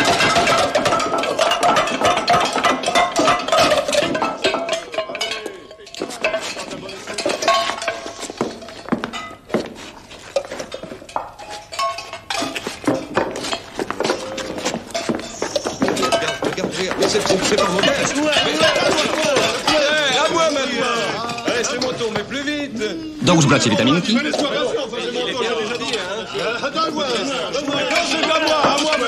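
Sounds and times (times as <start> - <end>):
hubbub of men's voices: 0.0 - 9.5, 14.0 - 29.0
metal bowls and spoons clattering: 0.0 - 29.0.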